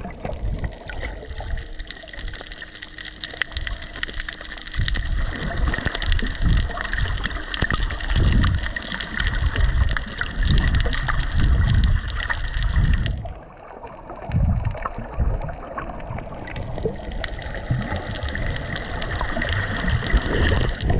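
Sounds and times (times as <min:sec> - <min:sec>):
clicks and crackles: 0:00.0 - 0:20.9
water sloshing underwater: 0:00.0 - 0:20.9.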